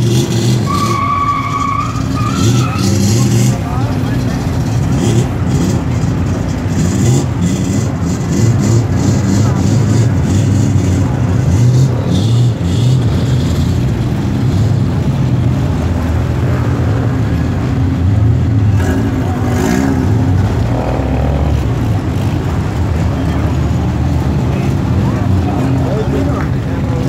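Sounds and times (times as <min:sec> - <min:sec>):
car engines rumbling: 0:00.0 - 0:27.0.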